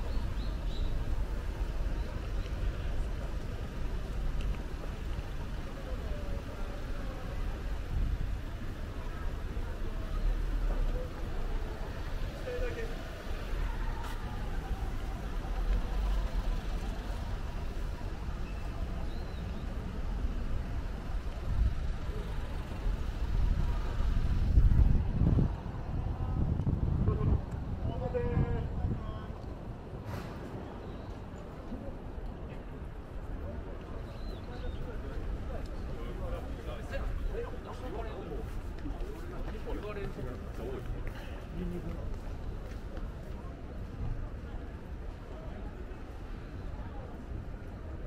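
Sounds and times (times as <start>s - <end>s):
low traffic rumble: 0.0s - 48.0s
murmur of people: 0.0s - 48.0s.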